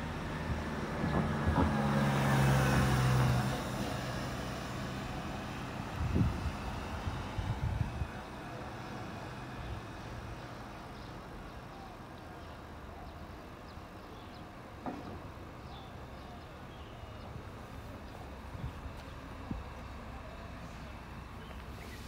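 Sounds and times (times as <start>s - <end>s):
engine idling hum: 0.0s - 22.0s.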